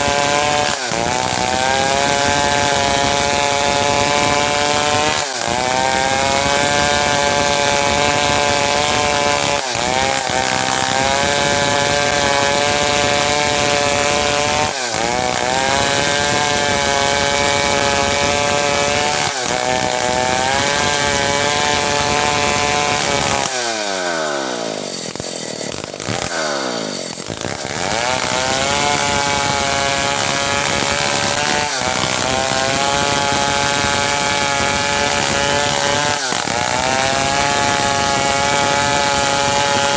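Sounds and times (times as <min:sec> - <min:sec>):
chainsaw sawing through timber: 0:00.0 - 0:39.9.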